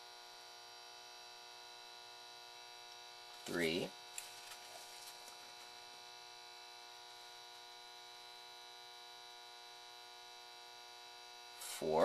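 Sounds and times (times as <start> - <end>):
electrical hum with high whine: 0.0 - 12.0.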